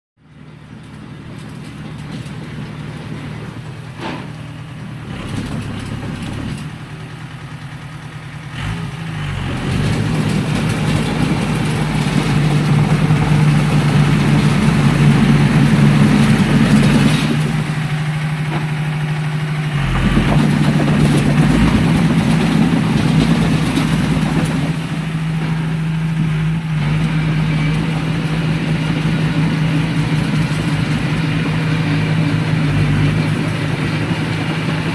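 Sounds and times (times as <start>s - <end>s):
bulldozer diesel engine under load: 0.2s - 34.9s.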